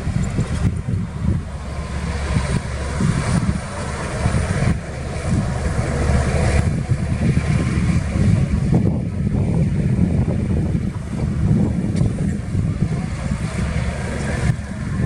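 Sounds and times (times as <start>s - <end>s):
heavy machinery diesel engine running: 0.0s - 15.0s.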